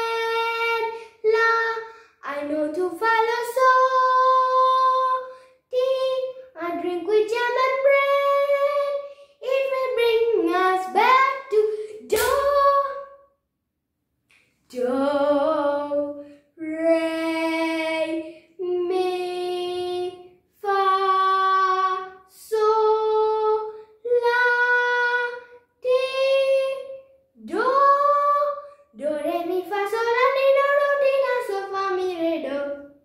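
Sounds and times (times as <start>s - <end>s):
girl singing unaccompanied: 0.0s - 13.3s, 14.7s - 33.0s.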